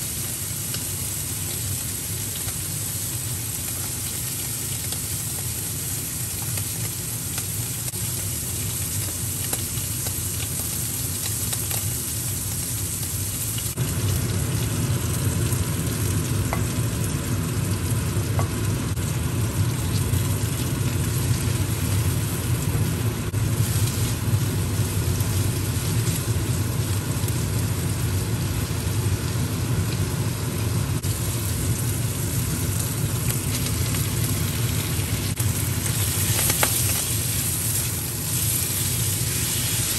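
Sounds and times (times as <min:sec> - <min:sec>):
pork sizzling in a pan: 0:00.0 - 0:39.9.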